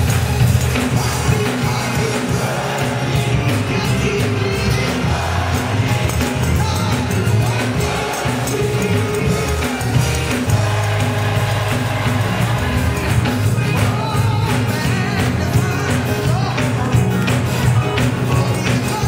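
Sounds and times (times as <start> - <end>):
gospel choir singing: 0.0 - 16.8
band accompaniment: 0.0 - 19.0
rhythmic clapping: 0.0 - 19.0.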